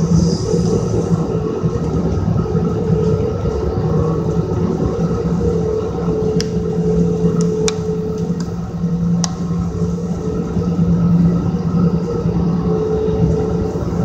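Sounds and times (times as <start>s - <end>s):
low steady hum: 0.0s - 14.0s
train rumble from inside coach: 0.0s - 14.0s.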